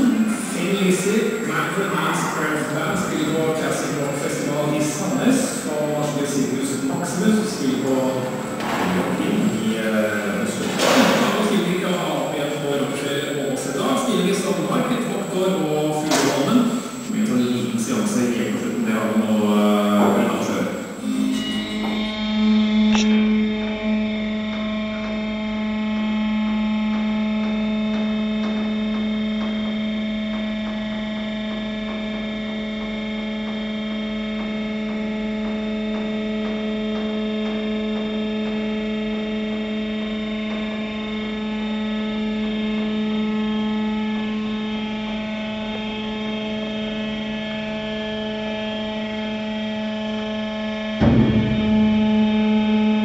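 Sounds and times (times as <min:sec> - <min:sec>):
steady machine hum: 0:00.0 - 0:53.0.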